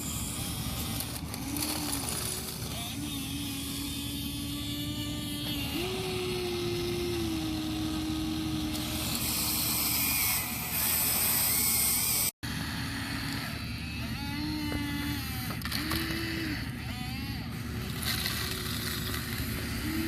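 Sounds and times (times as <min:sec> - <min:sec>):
steady background hum: 0:00.0 - 0:20.0
toy motors whining: 0:00.0 - 0:20.0.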